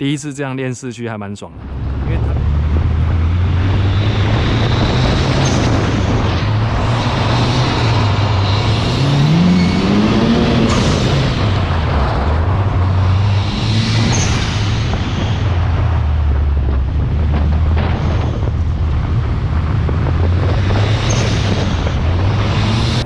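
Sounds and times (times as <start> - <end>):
car engine revving: 1.5 - 23.0.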